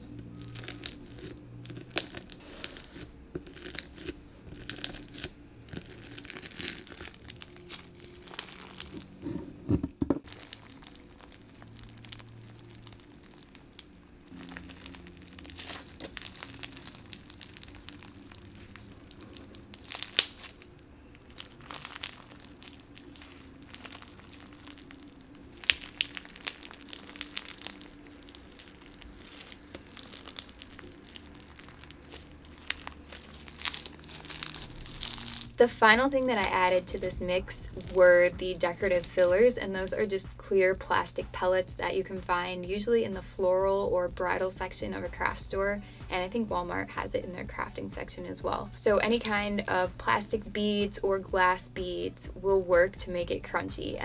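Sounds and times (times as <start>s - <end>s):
crunchy slime crackling: 0.0s - 9.6s, 10.2s - 54.0s.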